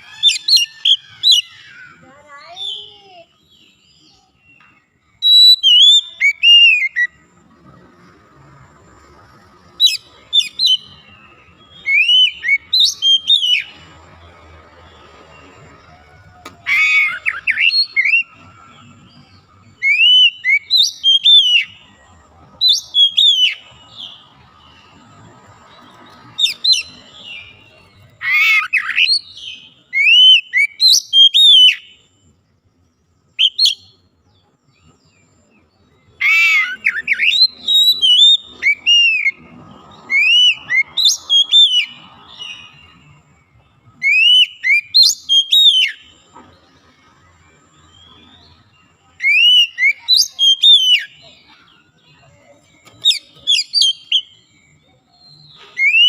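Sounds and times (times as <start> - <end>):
bird singing whistled notes: 0.0 - 7.4, 9.1 - 56.0.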